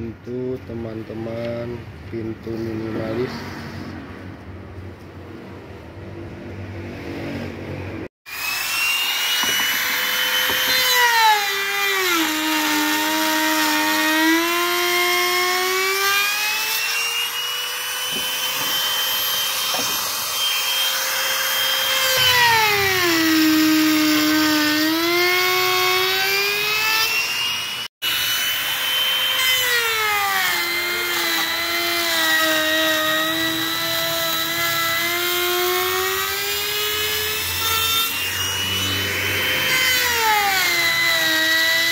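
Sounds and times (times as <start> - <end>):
router motor whine: 8.3 - 41.9.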